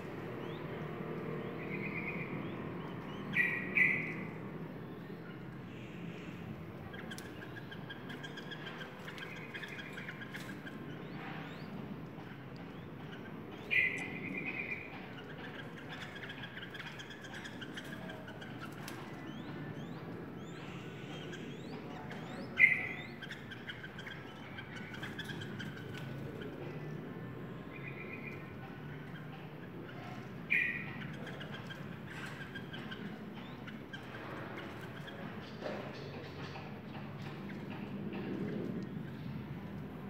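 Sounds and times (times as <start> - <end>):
bird trilling and chattering: 0.0 - 40.0.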